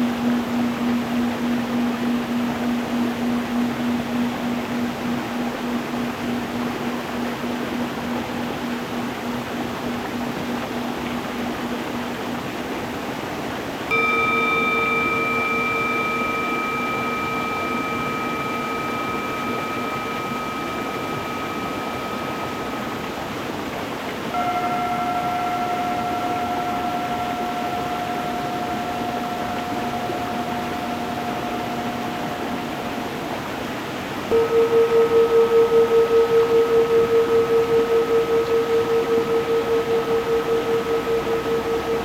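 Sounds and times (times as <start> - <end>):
singing bowls ringing: 0.0 - 13.0, 13.8 - 42.0.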